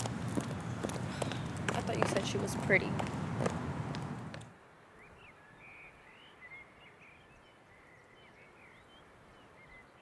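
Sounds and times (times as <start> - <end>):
birds chirping: 0.0 - 10.0
low steady hiss: 0.0 - 10.0.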